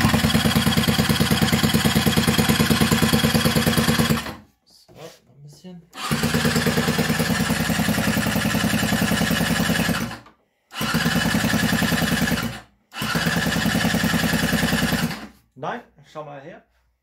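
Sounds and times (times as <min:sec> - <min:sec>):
scooter engine cranking on starter: 0:00.0 - 0:04.4, 0:06.0 - 0:15.3.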